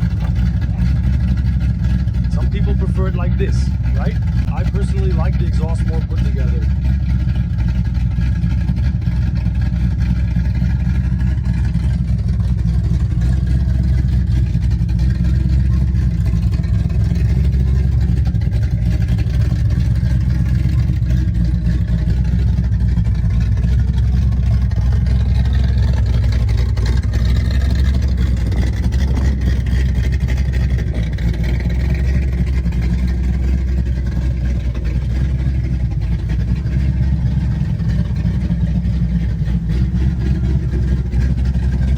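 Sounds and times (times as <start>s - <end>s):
car engine exhaust drone: 0.0s - 41.9s.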